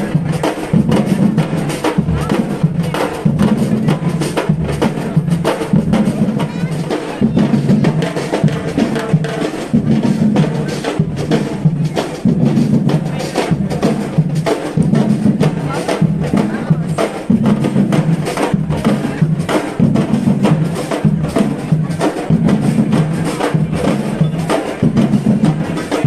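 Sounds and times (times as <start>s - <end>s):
fast drumming and percussion: 0.0s - 26.0s.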